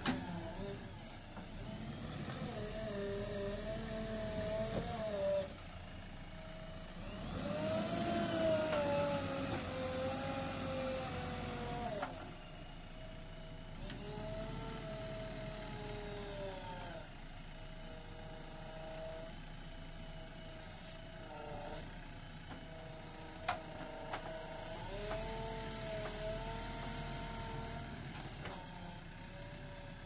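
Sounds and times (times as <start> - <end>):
diesel engine under hydraulic load: 0.0 - 30.0.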